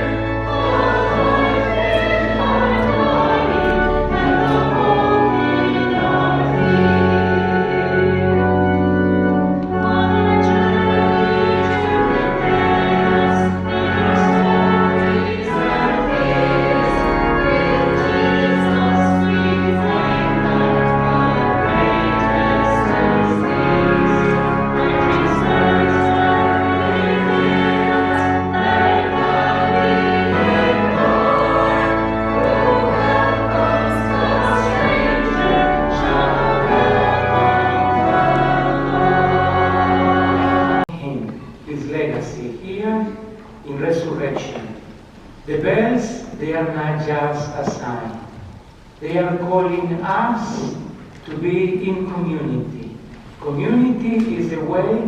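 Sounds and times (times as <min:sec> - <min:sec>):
choir singing held chords: 0:00.0 - 0:55.0.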